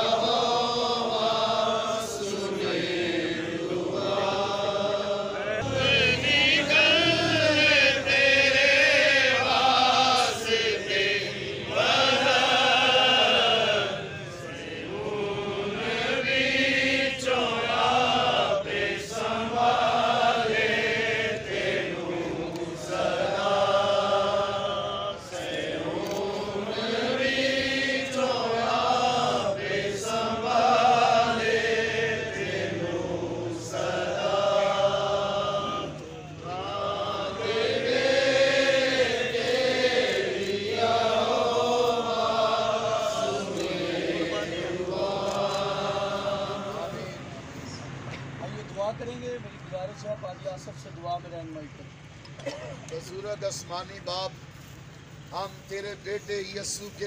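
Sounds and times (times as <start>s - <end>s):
crowd chanting in unison: 0.0s - 48.1s.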